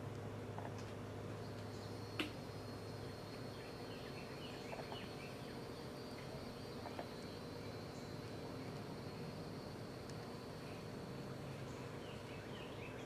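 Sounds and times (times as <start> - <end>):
low steady hum: 0.0 - 13.0
faint chirps: 1.4 - 13.0.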